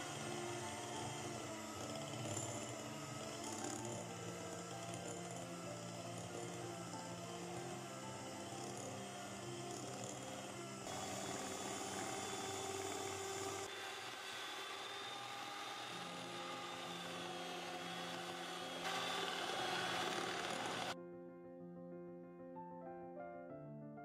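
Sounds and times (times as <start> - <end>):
soft background music: 0.0 - 13.7, 15.2 - 24.0
electric hand mixer whirring: 0.0 - 21.0.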